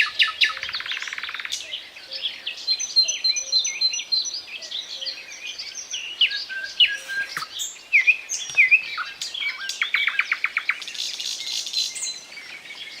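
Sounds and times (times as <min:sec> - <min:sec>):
nightingale singing: 0:00.0 - 0:13.0.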